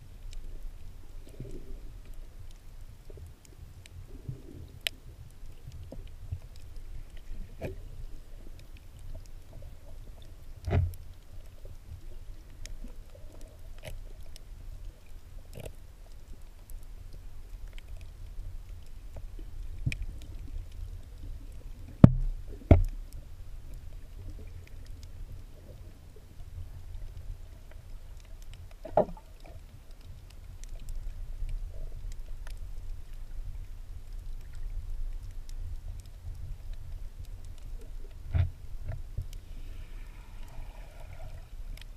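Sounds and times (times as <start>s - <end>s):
low underwater rumble: 0.0s - 41.9s
faint clicks: 0.2s - 41.9s.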